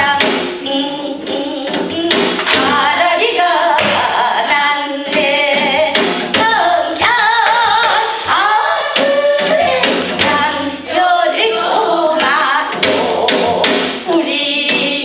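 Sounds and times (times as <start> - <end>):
group of women singing: 0.0 - 15.0
sharp drum strokes: 0.0 - 15.0.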